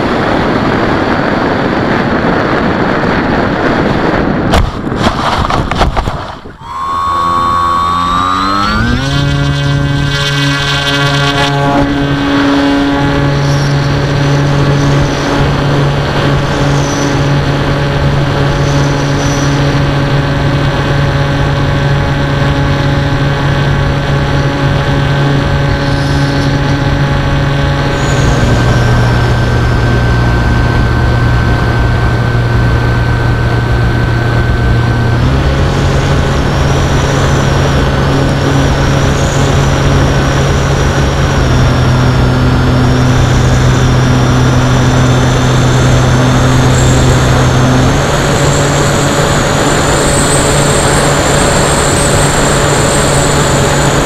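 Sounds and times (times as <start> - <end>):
electric motor and propeller: 0.0 - 54.0
wind rushing over camera: 0.0 - 54.0.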